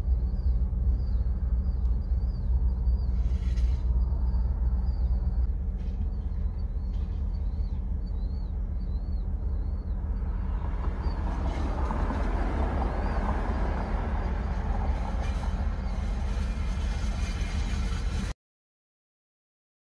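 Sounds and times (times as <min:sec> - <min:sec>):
vehicle engine idling: 0:00.0 - 0:18.3
broad rushing noise: 0:01.3 - 0:18.3.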